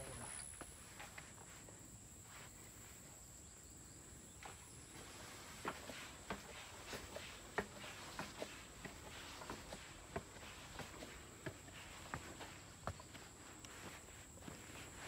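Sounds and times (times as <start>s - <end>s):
footsteps on concrete steps: 0.0s - 3.0s, 4.3s - 15.0s.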